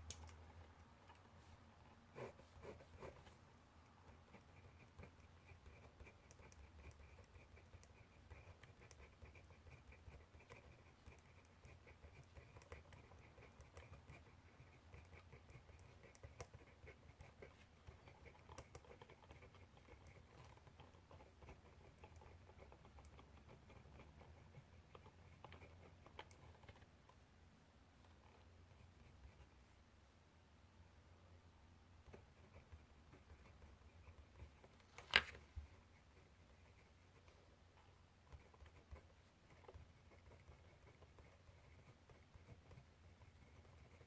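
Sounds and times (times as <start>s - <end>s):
pen scratching on paper: 1.4s - 3.4s, 4.0s - 27.0s, 28.0s - 29.6s, 32.0s - 44.0s.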